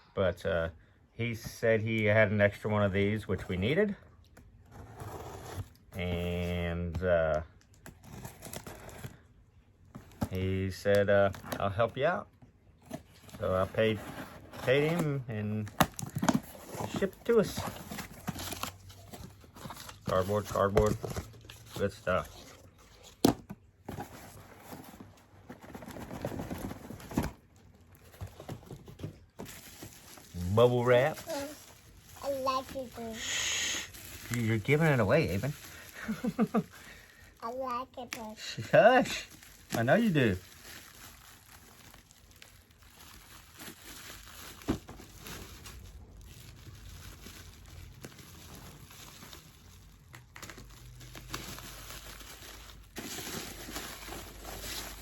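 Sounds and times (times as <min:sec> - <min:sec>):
cardboard and bubble wrap rustling: 0:01.2 - 0:55.0.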